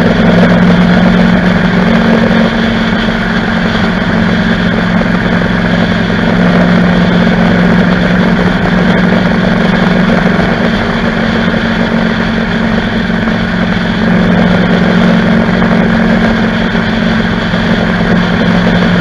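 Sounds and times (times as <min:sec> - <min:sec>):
motorcycle engine running: 0:00.0 - 0:19.0
road noise: 0:00.0 - 0:19.0
wind noise on microphone: 0:00.0 - 0:19.0.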